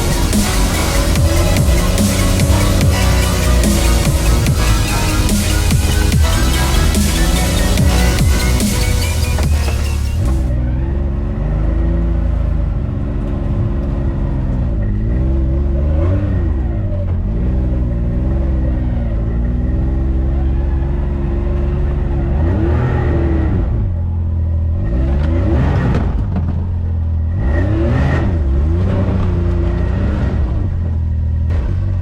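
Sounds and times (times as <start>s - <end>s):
engine revving while driving: 0.0s - 32.0s.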